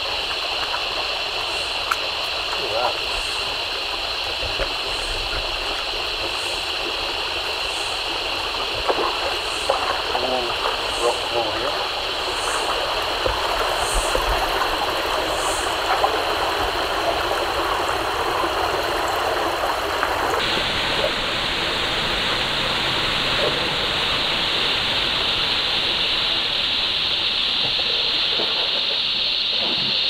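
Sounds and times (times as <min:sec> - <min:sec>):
creek water flowing: 0:00.0 - 0:30.0.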